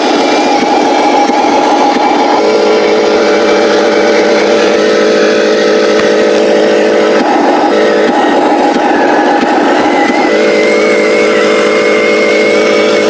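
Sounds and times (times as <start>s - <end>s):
simulated diesel truck engine: 0.0s - 13.0s.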